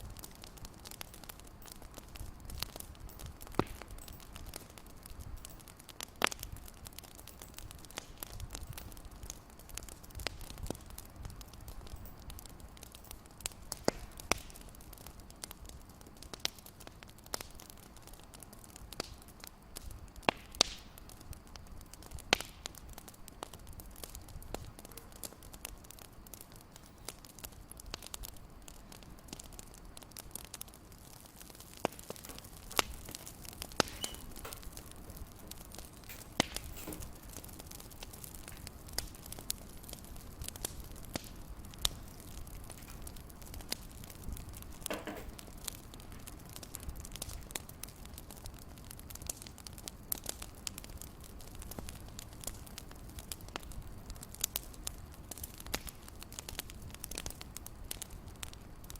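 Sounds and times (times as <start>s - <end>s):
fireplace crackling and popping: 0.0s - 58.9s.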